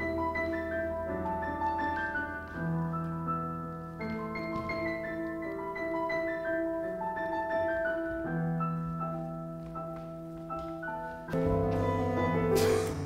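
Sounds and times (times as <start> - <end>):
soft instrumental music: 0.0 - 13.0.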